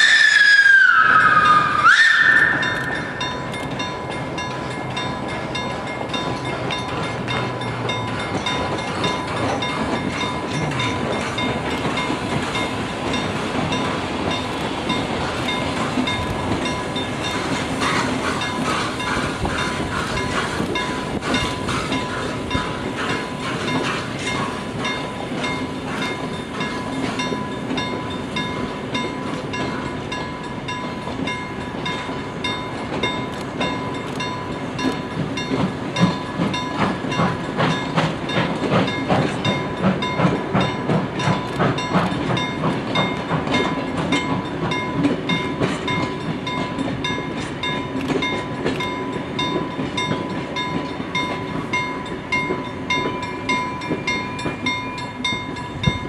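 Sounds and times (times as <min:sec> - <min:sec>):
train wheels clacking over rails: 0:00.0 - 0:56.0
crossing warning bell ringing: 0:00.7 - 0:56.0.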